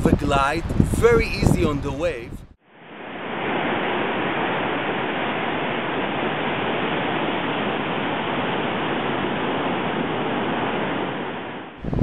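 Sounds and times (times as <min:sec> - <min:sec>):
surf rushing: 0:00.0 - 0:12.0
wind on microphone: 0:00.0 - 0:12.0.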